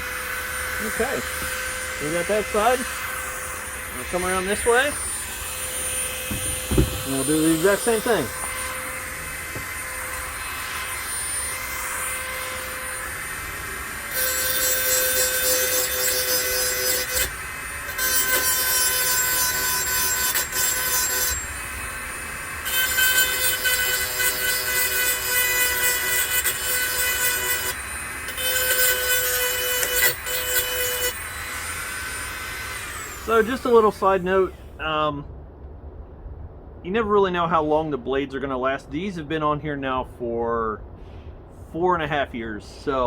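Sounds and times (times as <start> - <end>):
grinder motor hum: 0.0 - 34.6
grinder scraping steel blades: 0.0 - 34.6.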